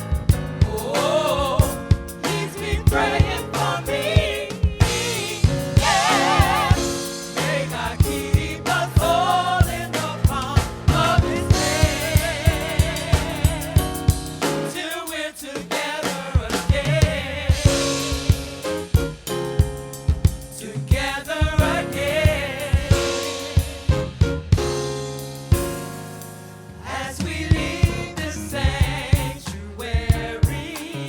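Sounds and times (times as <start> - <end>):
drum kit steady beat: 0.0 - 31.0.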